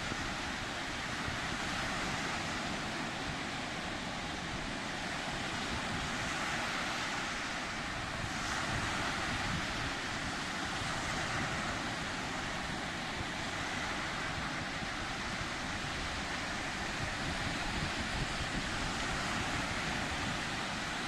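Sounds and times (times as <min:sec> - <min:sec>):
sea surf waves: 0:00.0 - 0:21.0.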